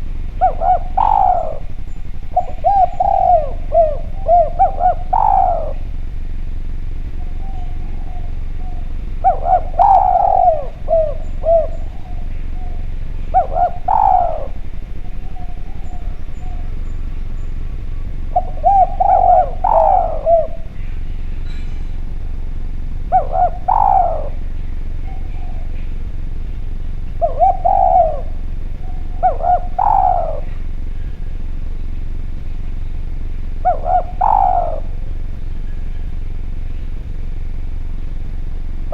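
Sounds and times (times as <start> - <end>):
dove cooing: 0.0 - 38.9
steady low hum: 0.0 - 38.9.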